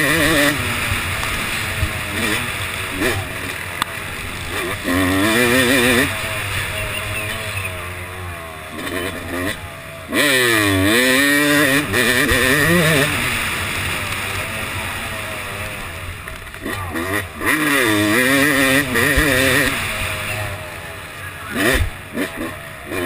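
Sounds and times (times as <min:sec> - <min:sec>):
motocross engine revving: 0:00.0 - 0:23.0.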